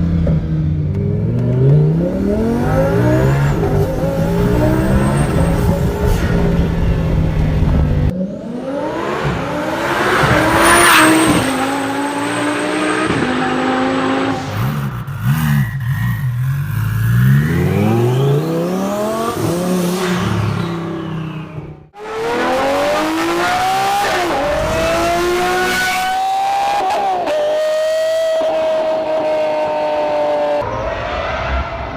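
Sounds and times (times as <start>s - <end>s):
car engine accelerating hard: 0.0s - 30.8s.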